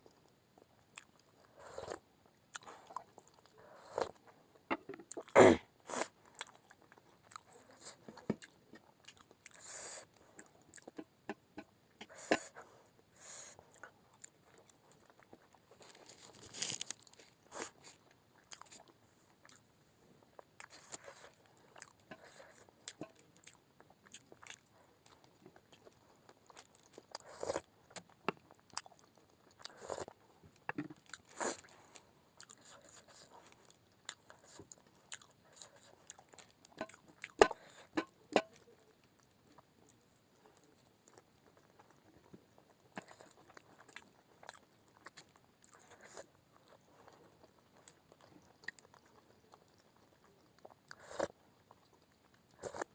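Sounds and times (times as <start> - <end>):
person chewing food: 0.2 - 52.9.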